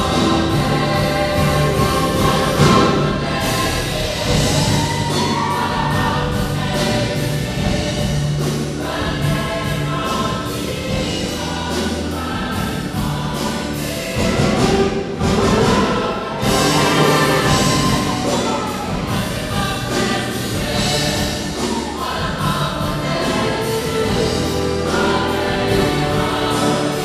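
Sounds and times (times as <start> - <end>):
choir singing gospel music: 0.0 - 27.0
held bass notes: 0.0 - 27.0
instrumental accompaniment: 0.0 - 27.0.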